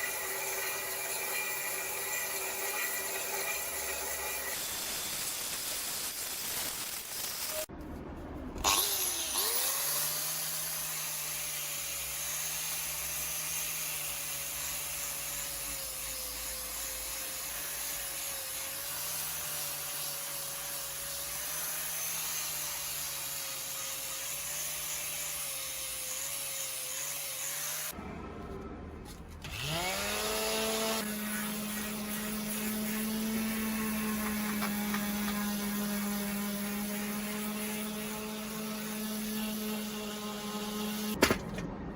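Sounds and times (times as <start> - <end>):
power tool grinding: 0.0 - 7.7, 8.6 - 28.0, 29.4 - 41.2.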